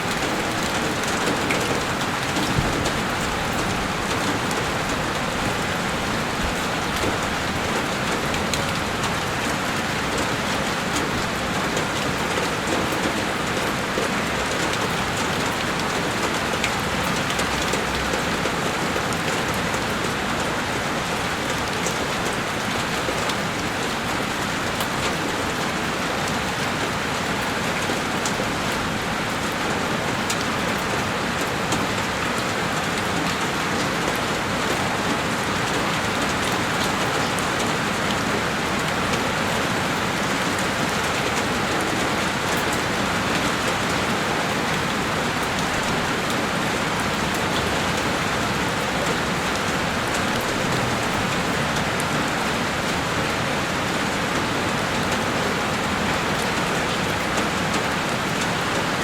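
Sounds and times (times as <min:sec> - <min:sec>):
heavy rain on a window: 0:00.0 - 0:59.0.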